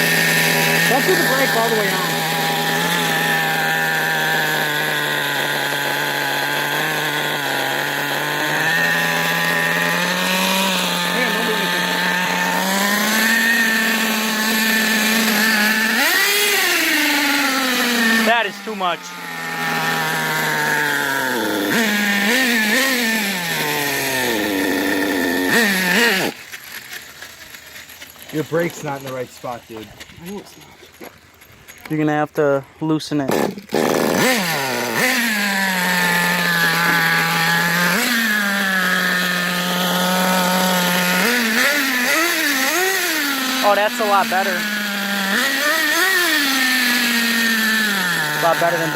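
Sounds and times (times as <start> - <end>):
small model car engine revving: 0.0 - 48.9.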